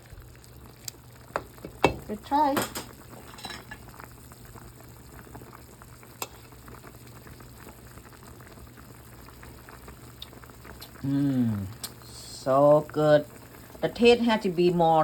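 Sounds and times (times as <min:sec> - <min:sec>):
soup boiling with bubbles: 0:00.0 - 0:15.0.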